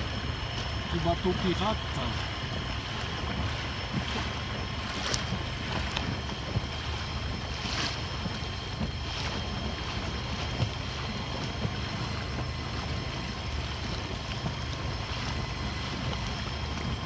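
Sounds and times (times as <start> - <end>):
outboard motor running: 0.0 - 17.0
water washing along hull: 0.0 - 17.0.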